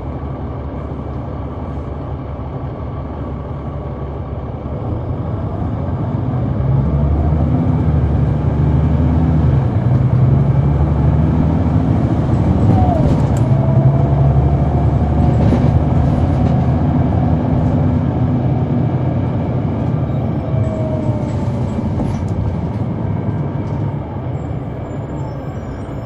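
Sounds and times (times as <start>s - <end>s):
bus diesel engine running: 0.0s - 26.0s
whine above engine: 0.0s - 26.0s.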